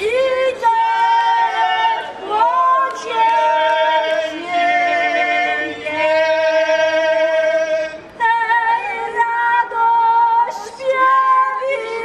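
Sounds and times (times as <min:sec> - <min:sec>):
group singing a folk song: 0:00.0 - 0:12.0.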